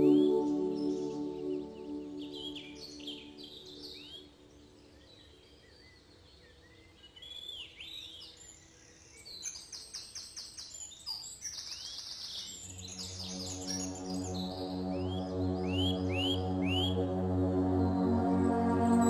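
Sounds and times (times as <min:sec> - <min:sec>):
wild birds chirping and trilling: 0:02.2 - 0:19.0.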